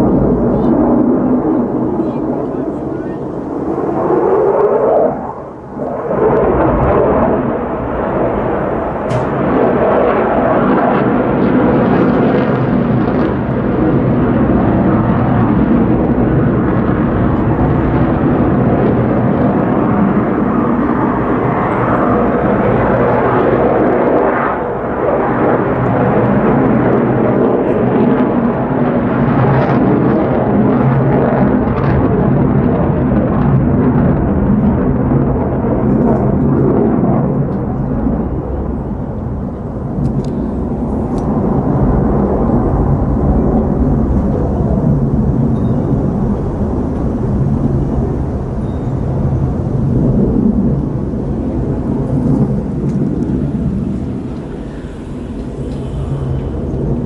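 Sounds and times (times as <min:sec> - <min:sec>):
jet engine roaring: 0:00.0 - 0:57.0.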